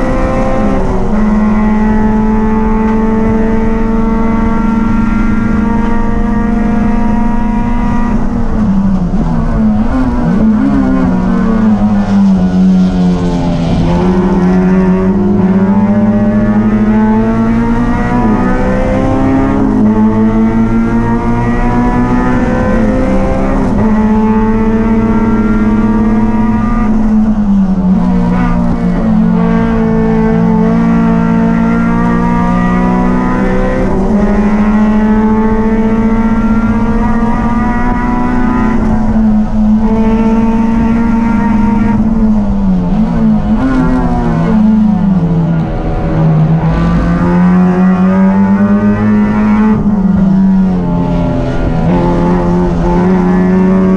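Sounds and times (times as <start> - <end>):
race car engine at high revs: 0.0 - 53.9.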